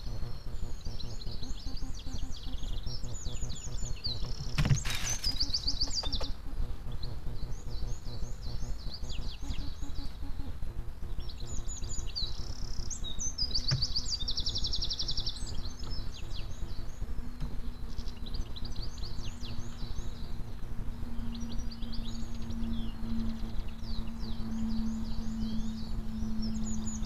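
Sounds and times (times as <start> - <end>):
bird trill: 0.0 - 27.0
songbirds chirping: 0.0 - 27.0
steady low rumble: 0.0 - 27.0.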